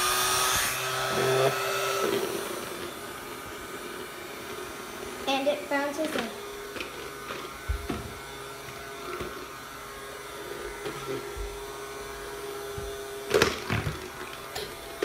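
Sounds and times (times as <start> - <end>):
small fan motor whirring: 0.0 - 15.0.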